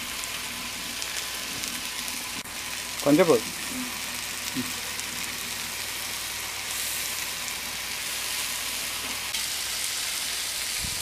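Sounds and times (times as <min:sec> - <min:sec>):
meat sizzling on a griddle: 0:00.0 - 0:11.0.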